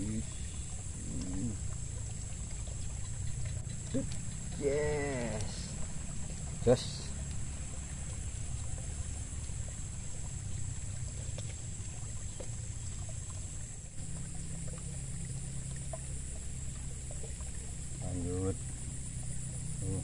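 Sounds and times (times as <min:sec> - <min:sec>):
high insect hum: 0:00.0 - 0:20.0
water trickling in a ditch: 0:00.0 - 0:20.0.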